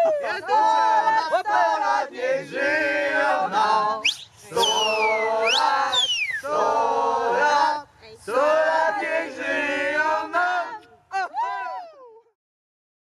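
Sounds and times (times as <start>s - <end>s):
group singing and chanting: 0.0s - 11.5s.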